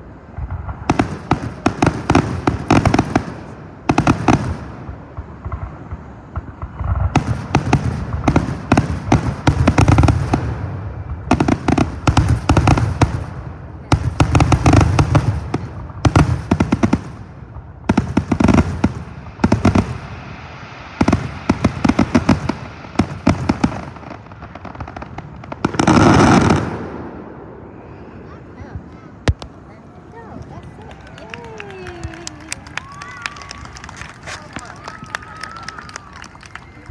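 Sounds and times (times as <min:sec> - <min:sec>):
fireworks crackling and booming: 0:00.0 - 0:36.9.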